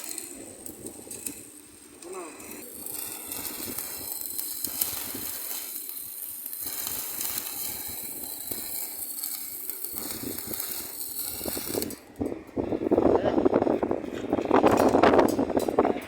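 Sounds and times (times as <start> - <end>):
welding arc crackling sizzle: 0.0 - 15.9.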